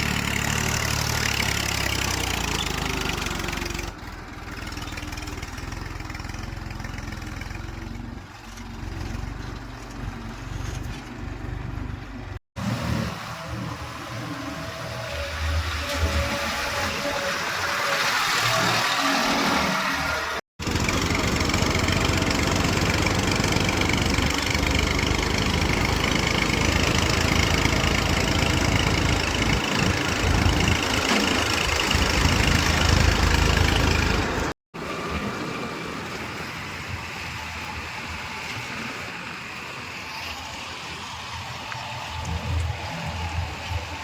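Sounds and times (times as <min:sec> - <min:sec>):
diesel machinery engines running: 0:00.0 - 0:44.0.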